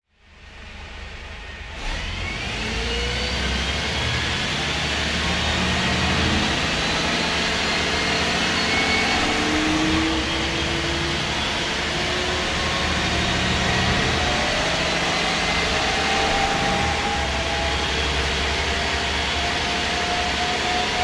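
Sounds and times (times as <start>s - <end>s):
diesel bus engine running: 0.2s - 21.0s
thin rising whines: 1.4s - 21.0s.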